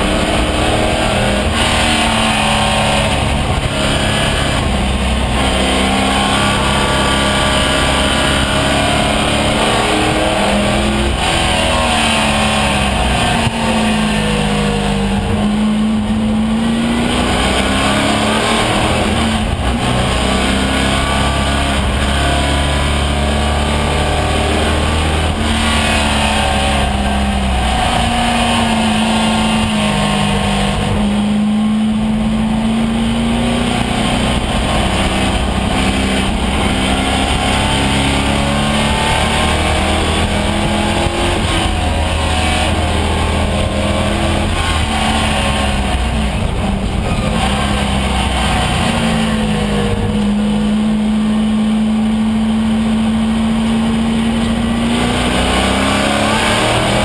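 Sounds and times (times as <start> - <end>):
race car engine: 0.0 - 57.0
road and wind noise: 0.0 - 57.0.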